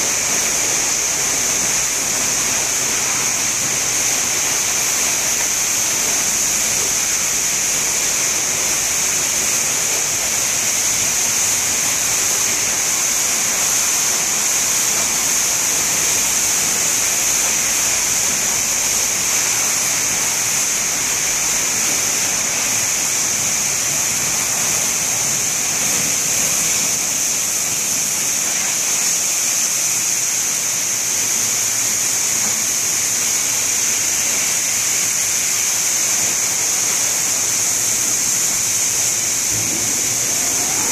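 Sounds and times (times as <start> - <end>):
water jets spraying: 0.0 - 40.9.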